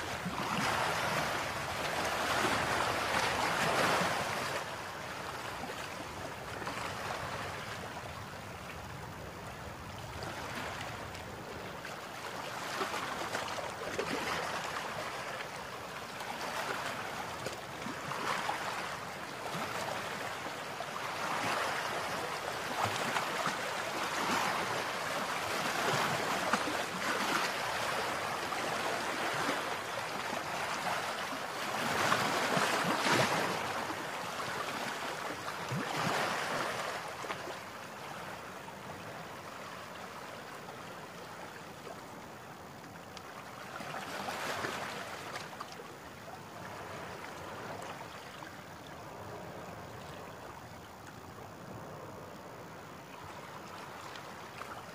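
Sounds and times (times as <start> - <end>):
water rushing along boat hull: 0.0 - 54.9.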